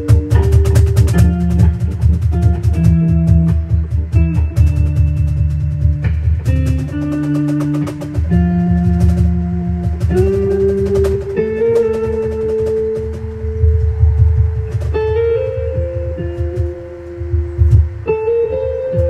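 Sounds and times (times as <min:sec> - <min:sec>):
sharp percussive clicks: 0:00.0 - 0:18.2
held instrumental notes: 0:00.0 - 0:19.0
low pulsing beat: 0:00.0 - 0:19.0.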